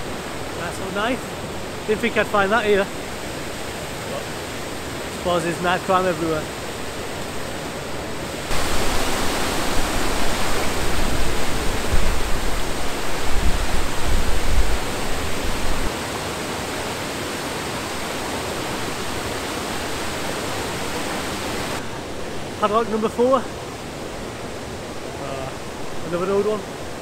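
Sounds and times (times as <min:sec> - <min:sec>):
water rushing over weir: 0:00.0 - 0:27.0.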